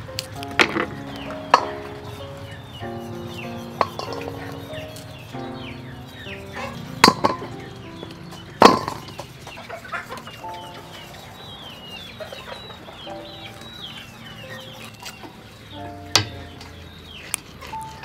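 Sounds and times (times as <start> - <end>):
birds chirping: 0.0 - 18.0
soft background music: 0.0 - 18.0.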